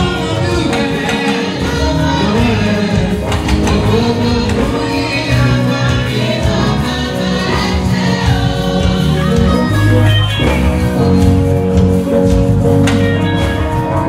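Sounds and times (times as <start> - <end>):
instrumental backing with low bass: 0.0 - 14.0
women's choir singing gospel: 0.0 - 14.0.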